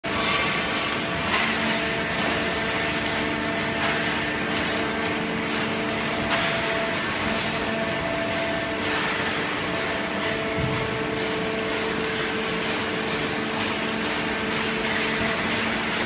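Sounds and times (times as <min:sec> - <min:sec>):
faint machine clatter: 0:00.0 - 0:16.0
baling machine hum: 0:00.1 - 0:16.0.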